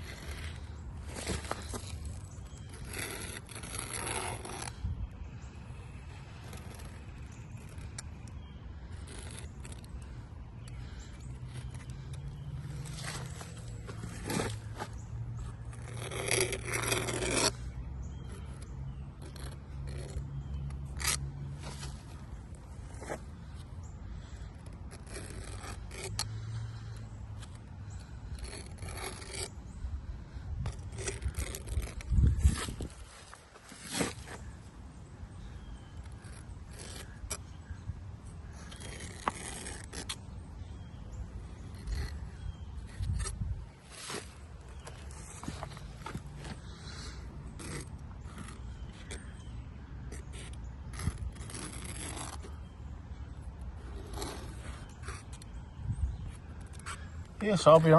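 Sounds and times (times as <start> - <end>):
caulking scraping and rubbing: 0.0 - 57.9.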